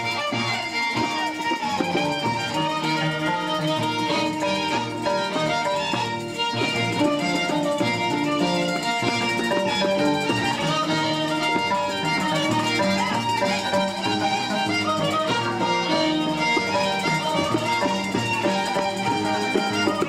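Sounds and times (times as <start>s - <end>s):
plucked string accompaniment: 0.0s - 20.0s
violin playing a tune: 0.0s - 20.0s.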